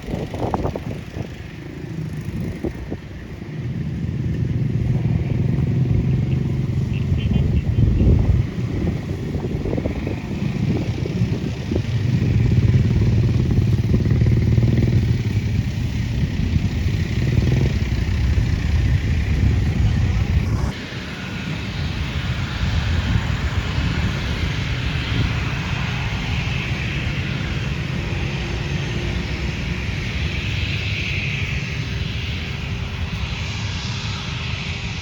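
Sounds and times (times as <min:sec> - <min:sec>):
heavy traffic engine rumble: 0:00.0 - 0:34.1
quieter hissy engine: 0:00.0 - 0:35.0.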